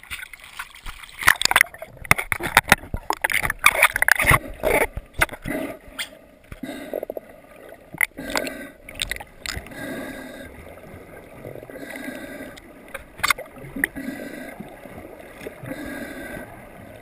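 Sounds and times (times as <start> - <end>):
water splashing and gurgling: 0.0 - 17.0.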